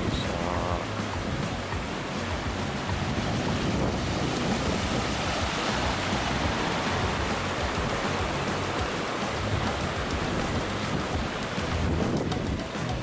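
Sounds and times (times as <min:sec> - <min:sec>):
water rushing through channel: 0:00.0 - 0:13.0.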